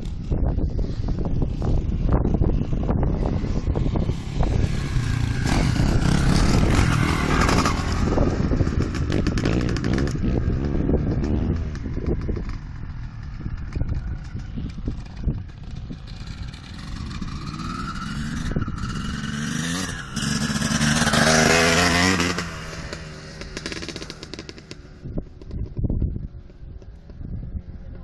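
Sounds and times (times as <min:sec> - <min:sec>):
dirt bike engine revving: 0:03.1 - 0:25.6.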